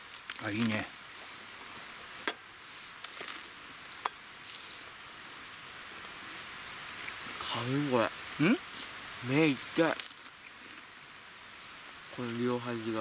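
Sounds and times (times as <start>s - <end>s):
faint steady hiss: 0.0s - 13.0s
wood fire crackling: 0.0s - 13.0s.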